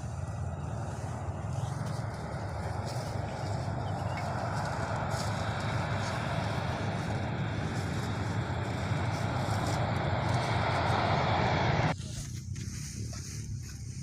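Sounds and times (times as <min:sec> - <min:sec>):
heavy truck engine rumbling: 0:00.0 - 0:14.0.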